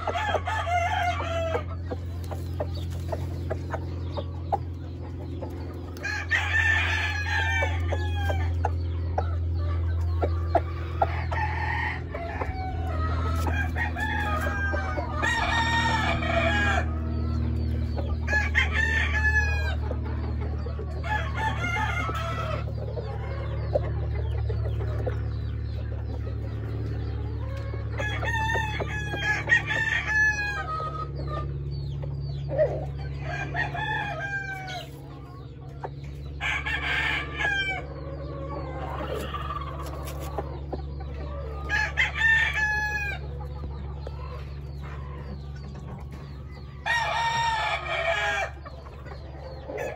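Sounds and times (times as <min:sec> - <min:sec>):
chickens clucking: 0:00.0 - 0:49.9
roosters crowing: 0:00.0 - 0:49.9
steady low hum: 0:00.0 - 0:49.9.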